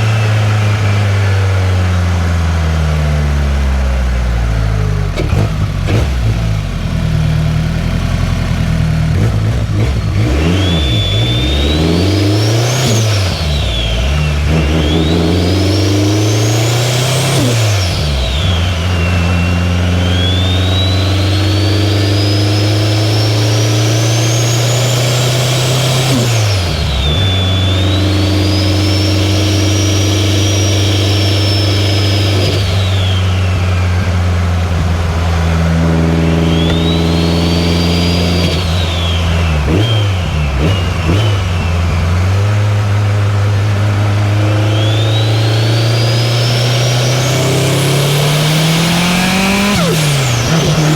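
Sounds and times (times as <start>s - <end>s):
high turbo whistle: 0.0s - 2.0s, 10.1s - 50.9s
car engine pulling under load: 0.0s - 50.9s.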